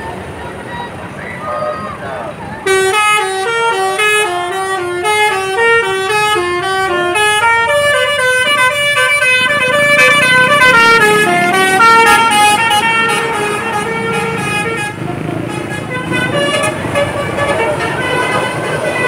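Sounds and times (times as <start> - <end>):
bus engine rumble: 0.0 - 19.0
traffic rumble: 0.0 - 19.0
bus horn playing melody: 2.6 - 19.0.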